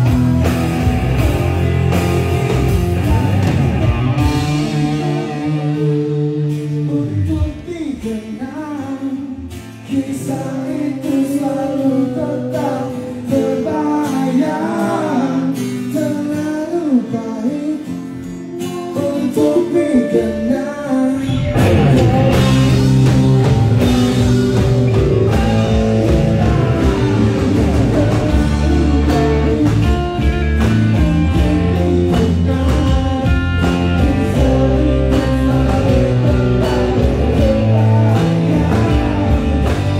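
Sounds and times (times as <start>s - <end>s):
electric guitar lead lines: 0.0s - 39.9s
rock band playing: 0.0s - 39.9s
person singing: 2.2s - 39.9s.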